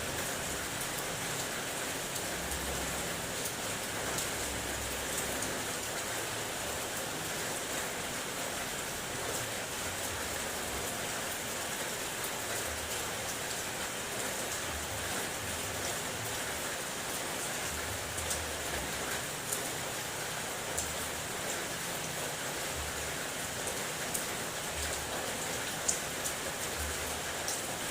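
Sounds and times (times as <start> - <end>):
rain on car body: 0.0 - 27.9.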